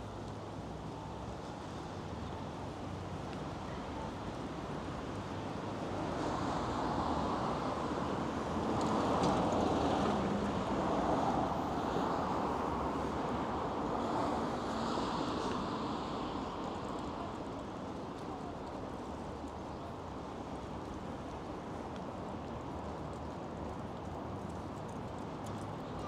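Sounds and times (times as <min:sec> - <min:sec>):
street traffic passing: 0:00.0 - 0:26.0.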